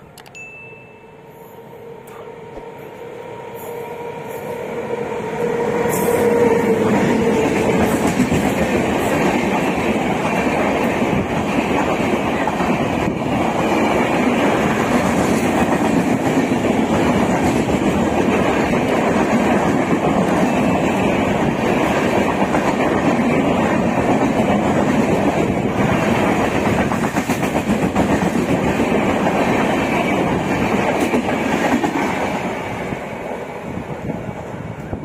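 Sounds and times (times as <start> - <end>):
train rumble and wheel clatter: 1.7 - 35.0.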